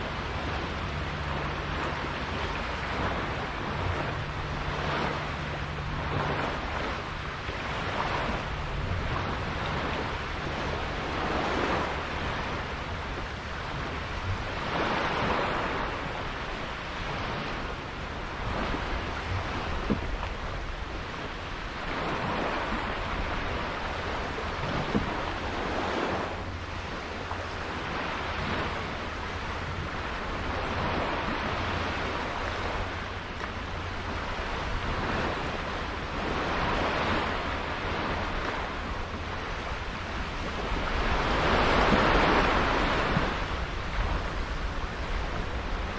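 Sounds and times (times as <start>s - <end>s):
water splashing against boat hull: 0.0s - 45.9s
wind buffeting microphone: 0.0s - 45.9s.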